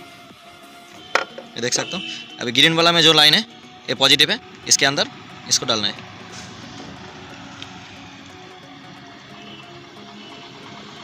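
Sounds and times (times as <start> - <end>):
quiet music of held notes: 0.0 - 11.0.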